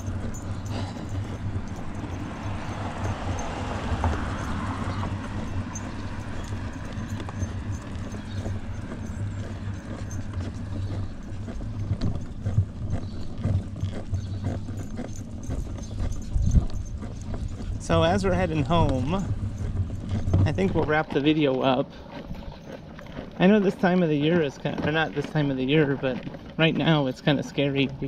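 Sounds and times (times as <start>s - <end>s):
low steady rumble: 0.0s - 23.6s
footsteps on pavement: 0.0s - 28.0s.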